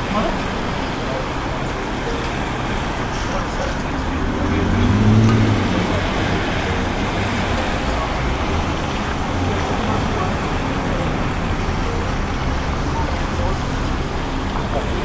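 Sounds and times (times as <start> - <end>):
passing vehicle engine: 0.0 - 15.0
street traffic noise: 0.0 - 15.0.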